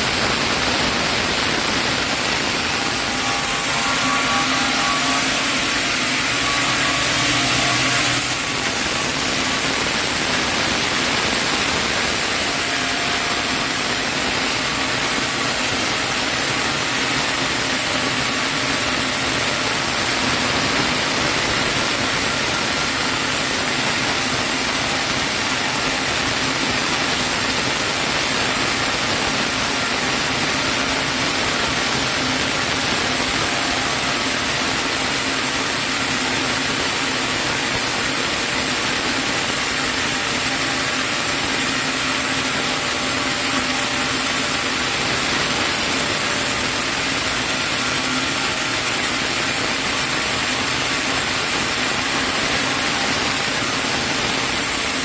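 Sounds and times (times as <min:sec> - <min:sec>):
faint high whine: 0:00.0 - 0:50.4
saw cutting through log: 0:00.0 - 0:55.0.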